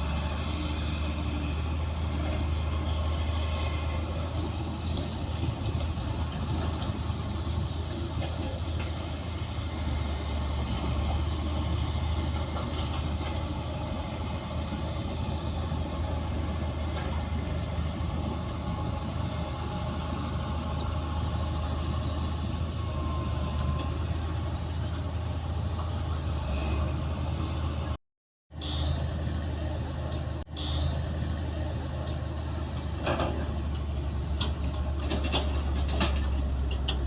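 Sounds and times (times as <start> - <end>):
diesel machinery running: 0.0 - 37.0.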